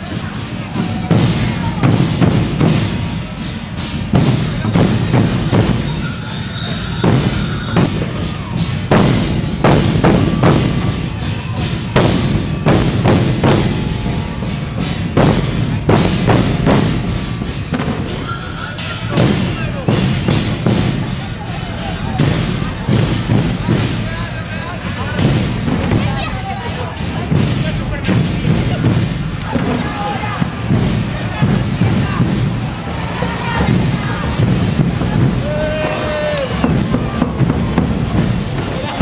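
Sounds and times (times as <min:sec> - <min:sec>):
bass drums marching rhythm: 0:00.0 - 0:39.0.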